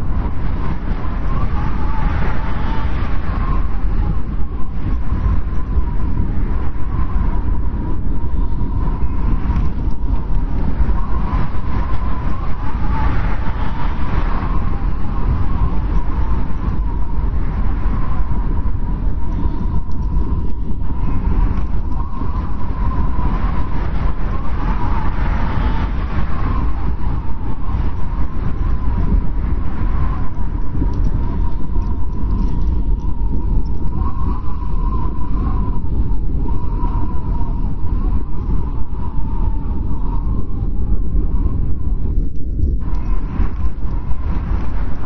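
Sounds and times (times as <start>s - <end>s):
strong wind rumbling: 0.0s - 45.0s
thin wind whistle: 0.0s - 45.0s.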